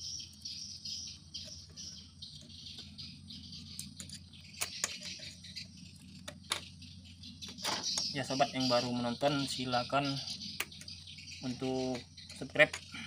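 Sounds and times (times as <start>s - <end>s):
crickets chirping: 0.0s - 13.0s
low steady hum: 0.0s - 13.0s.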